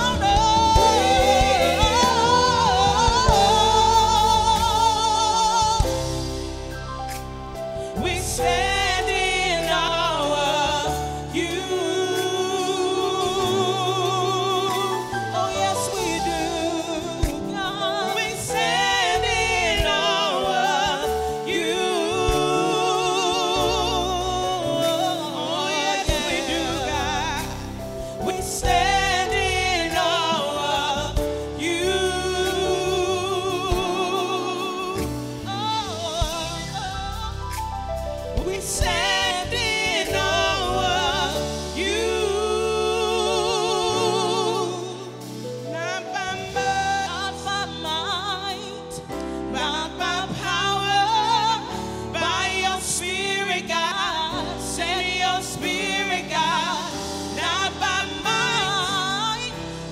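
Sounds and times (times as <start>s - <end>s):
band accompaniment: 0.0s - 59.9s
women singing gospel: 0.0s - 59.9s.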